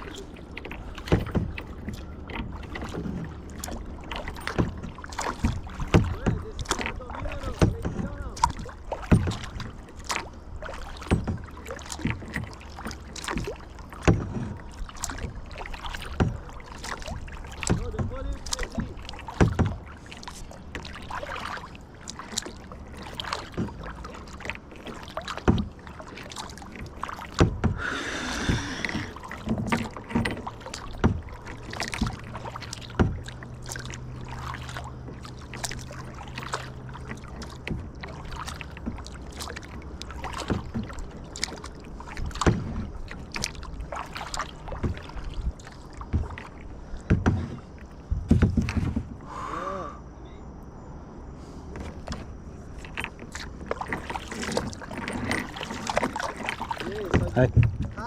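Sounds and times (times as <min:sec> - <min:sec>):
paddle knocking against hull: 0:00.0 - 0:49.4, 0:51.7 - 0:58.0
paddle strokes in water: 0:00.0 - 0:49.6, 0:51.2 - 0:58.0.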